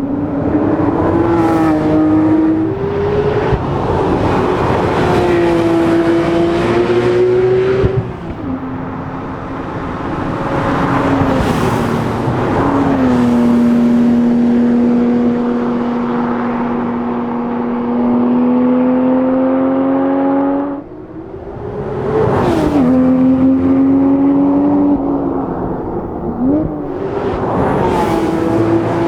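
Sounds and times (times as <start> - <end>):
sports car engine and exhaust: 0.0 - 29.0.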